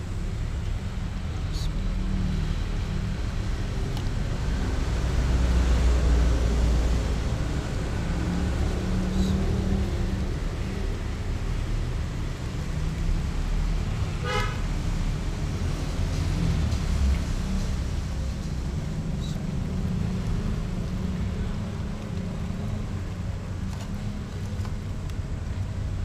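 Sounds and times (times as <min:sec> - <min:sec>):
low rumble of vehicle traffic: 0:00.0 - 0:26.0.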